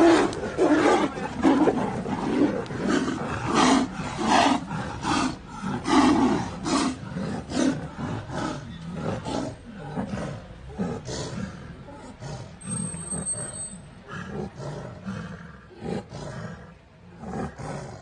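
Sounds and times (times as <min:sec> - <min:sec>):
tigers roaring: 0:00.0 - 0:18.0.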